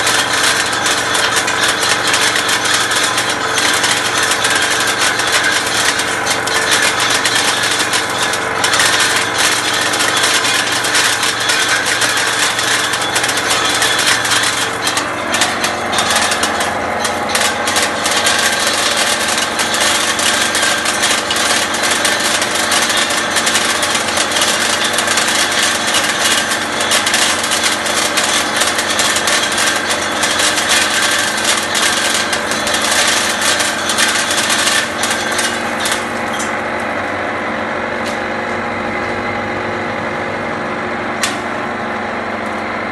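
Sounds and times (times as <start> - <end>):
machine motor hum: 0.0 - 42.9.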